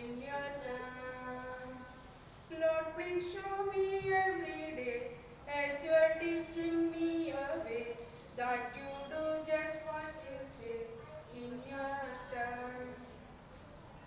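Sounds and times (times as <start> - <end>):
woman singing unaccompanied: 0.0 - 13.6.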